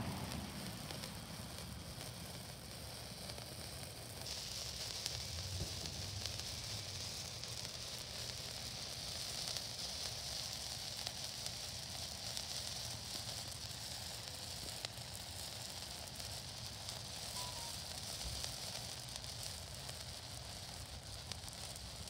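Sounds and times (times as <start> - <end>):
faint crackles: 0.0 - 22.0
firework fountain hissing: 0.0 - 22.0.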